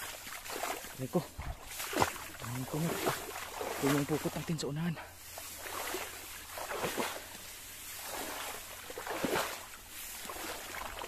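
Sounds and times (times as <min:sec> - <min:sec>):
rustling through tall grass: 0:00.0 - 0:11.0.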